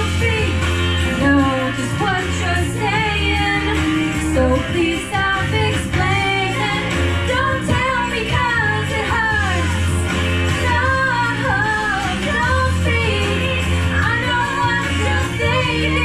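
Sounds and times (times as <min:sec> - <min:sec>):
pop backing track with bass: 0:00.0 - 0:16.0
woman singing into microphone: 0:00.0 - 0:16.0.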